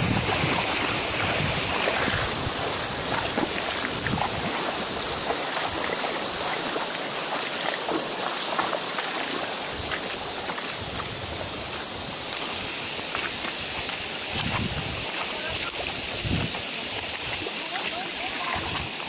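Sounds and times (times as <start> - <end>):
river rushing over rocks: 0.0 - 19.0
footsteps on stones: 1.9 - 19.0.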